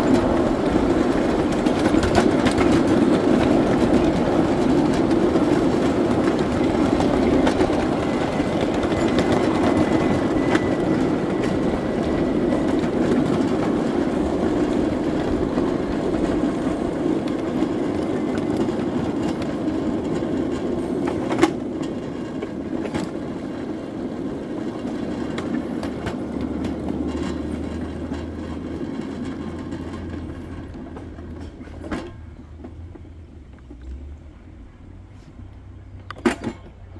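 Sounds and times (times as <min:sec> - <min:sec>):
miniature train rumbling on track: 0:00.0 - 0:36.9.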